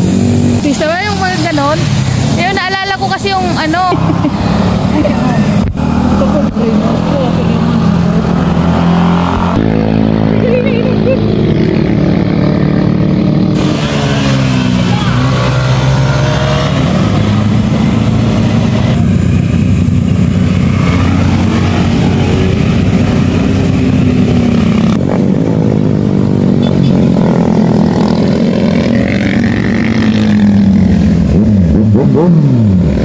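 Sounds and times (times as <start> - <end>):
motorcycles revving past: 0.0 - 33.0.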